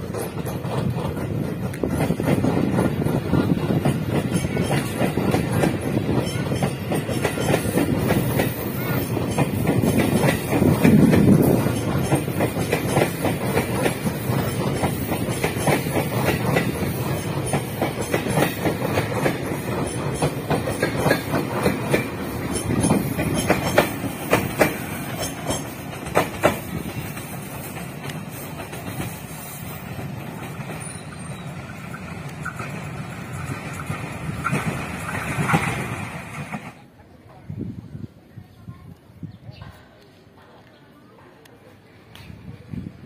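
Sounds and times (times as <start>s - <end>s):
train wheels clacking over joints: 0.0s - 36.8s
train low rumble: 0.0s - 43.0s.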